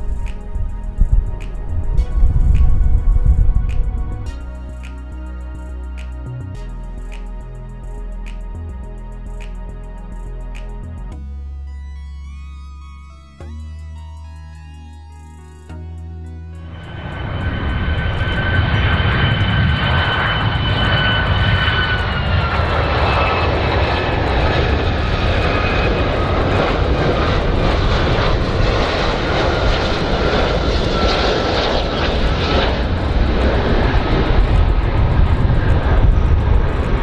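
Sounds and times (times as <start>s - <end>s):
jet airliner engines rumbling: 0.0s - 12.3s, 12.9s - 37.0s.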